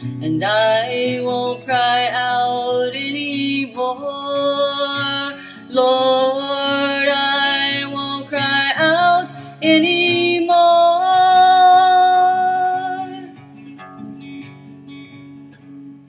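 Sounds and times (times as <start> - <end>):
slow song with acoustic guitar: 0.0 - 16.0.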